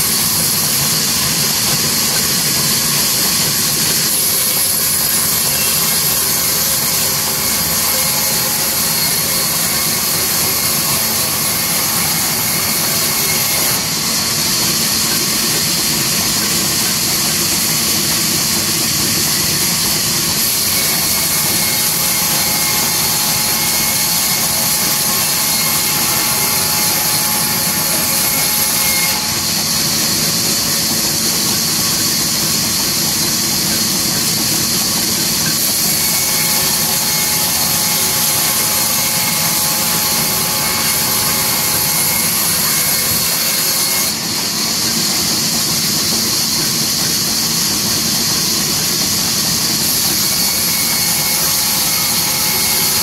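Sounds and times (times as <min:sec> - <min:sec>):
band saw cutting wood: 0:00.0 - 0:53.0.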